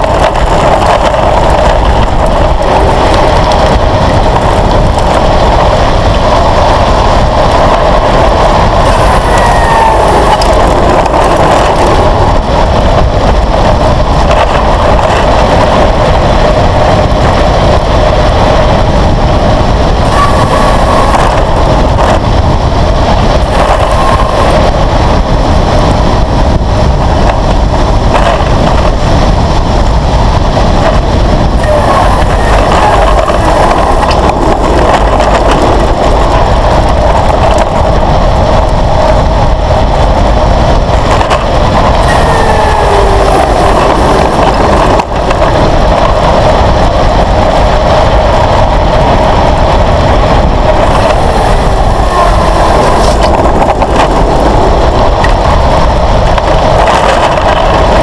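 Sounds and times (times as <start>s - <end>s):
wind rushing over camera: 0.0s - 58.0s.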